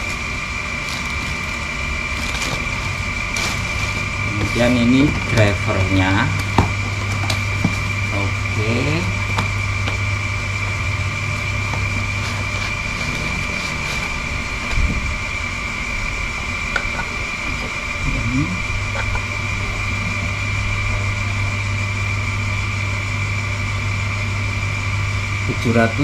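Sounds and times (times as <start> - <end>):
machine hum with high-pitched whine: 0.0 - 26.0.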